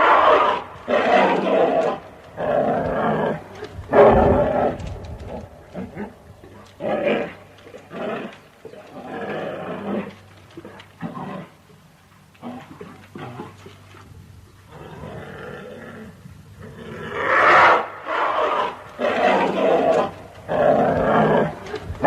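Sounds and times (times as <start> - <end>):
bear growling and roaring: 0.0 - 13.9, 14.7 - 22.0.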